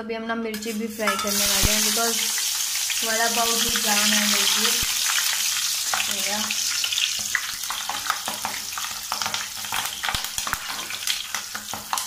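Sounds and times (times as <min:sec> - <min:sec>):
chillies sizzling in hot oil: 0:00.5 - 0:12.0.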